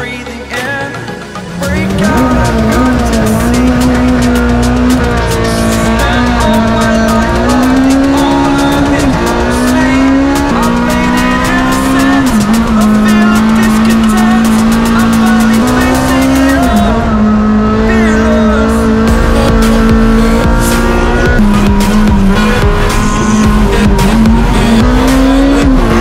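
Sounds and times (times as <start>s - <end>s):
song with drum beat: 0.0s - 17.0s, 17.8s - 26.0s
race car engine revving: 0.8s - 26.0s.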